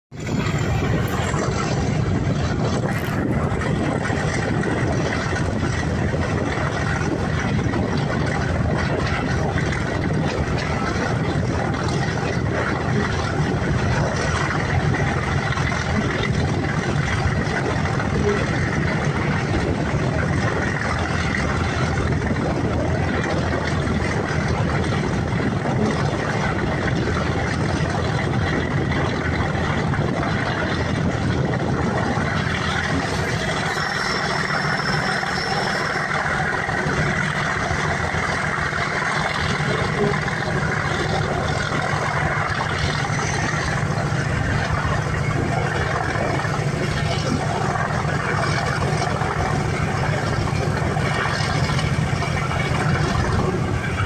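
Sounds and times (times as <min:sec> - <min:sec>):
diesel locomotive working hard: 0:00.0 - 0:54.0
wheels rumbling on rail: 0:00.0 - 0:54.0.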